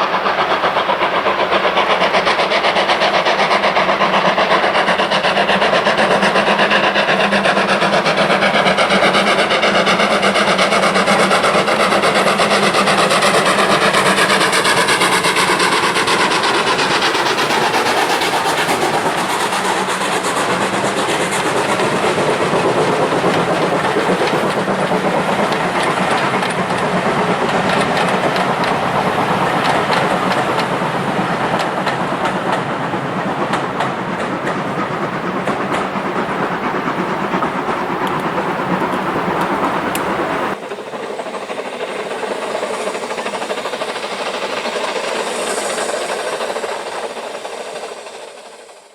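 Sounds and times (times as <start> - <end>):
train wheels clickety-clack on rails: 0.0 - 48.9.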